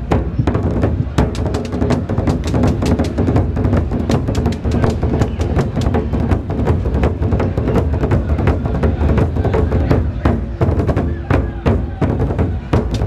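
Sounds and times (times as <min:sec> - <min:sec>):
barrel drums beating fast rhythm: 0:00.0 - 0:13.0.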